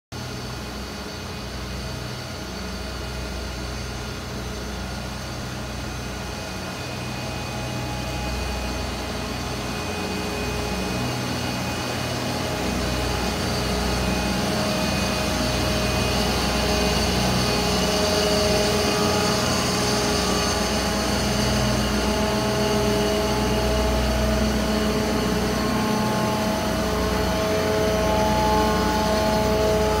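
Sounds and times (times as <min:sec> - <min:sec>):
heat pumps humming: 0:00.6 - 0:30.0.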